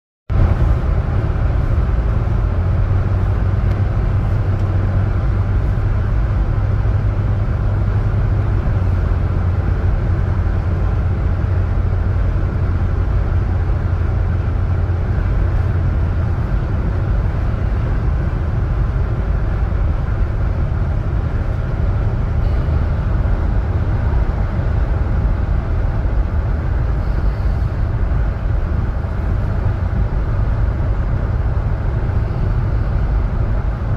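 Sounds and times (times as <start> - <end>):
car engine droning: 0.3 - 33.9.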